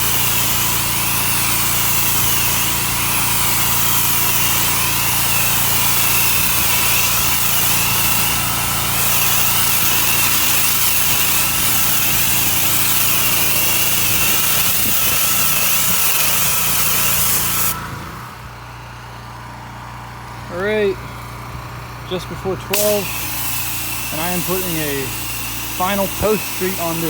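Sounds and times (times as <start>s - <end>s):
pressure washer spray hiss: 0.0s - 17.8s, 22.7s - 27.0s
pressure washer engine running: 0.0s - 27.0s.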